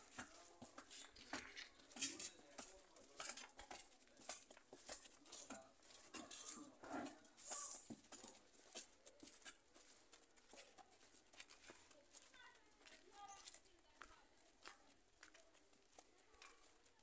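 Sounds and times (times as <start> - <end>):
cow hooves on concrete: 0.0 - 17.0
footsteps on concrete: 0.0 - 17.0.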